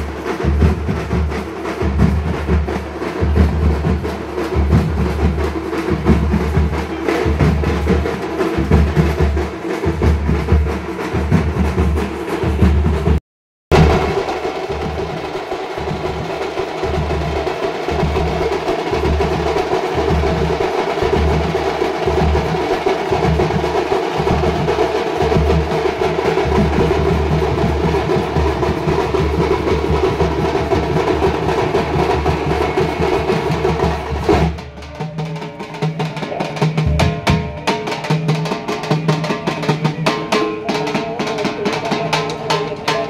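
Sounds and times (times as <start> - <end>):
snare drum rolls: 0.0 - 40.5.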